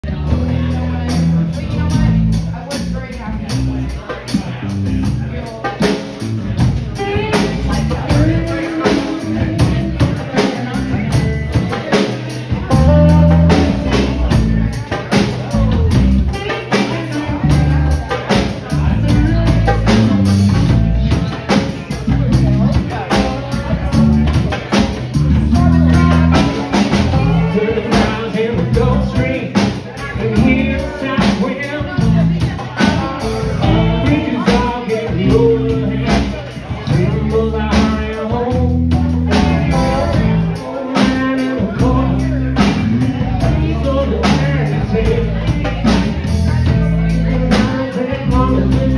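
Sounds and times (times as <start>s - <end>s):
drum kit beat: 0.0s - 48.9s
live blues-rock band: 0.0s - 48.9s.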